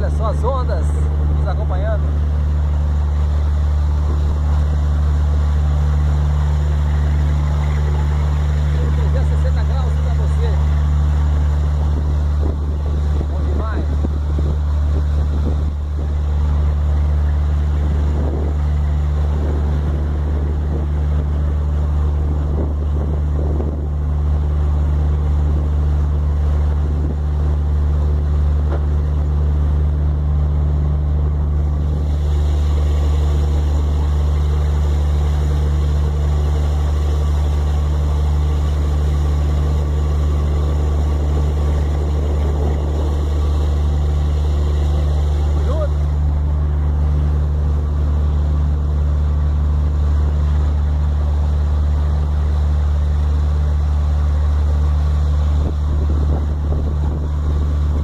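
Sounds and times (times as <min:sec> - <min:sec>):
motorboat engine drone: 0:00.0 - 0:58.0
water rushing: 0:00.0 - 0:58.0
wind noise on microphone: 0:02.0 - 0:58.0.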